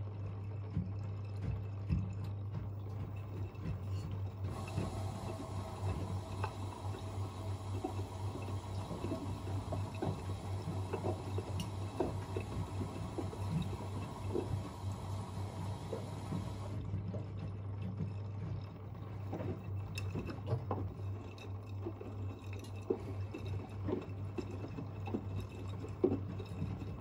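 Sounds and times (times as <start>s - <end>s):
washing machine hum: 0.0s - 27.0s
water rushing into drums: 1.4s - 18.1s, 18.7s - 27.0s.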